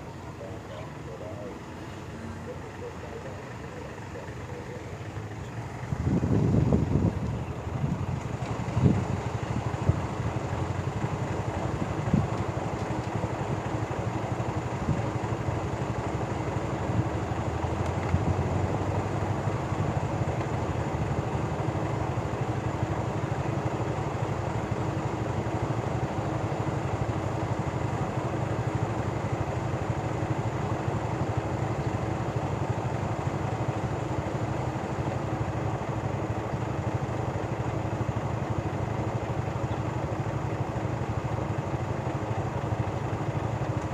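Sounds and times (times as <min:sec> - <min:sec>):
locomotive engine humming: 0:00.0 - 0:43.9.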